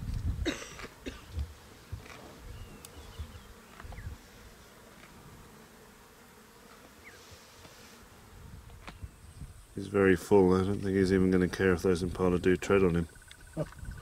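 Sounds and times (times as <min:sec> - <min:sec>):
flies buzzing: 0:00.1 - 0:14.0.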